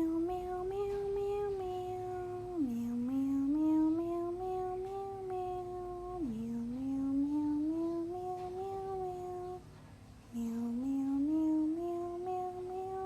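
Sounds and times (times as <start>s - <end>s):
person humming a melody: 0.0s - 9.6s, 10.3s - 13.0s.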